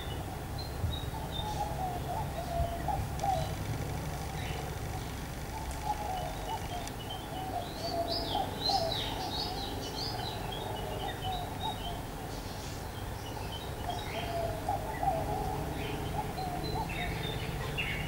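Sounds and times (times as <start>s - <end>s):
lower warbling bird calls: 0.0s - 18.0s.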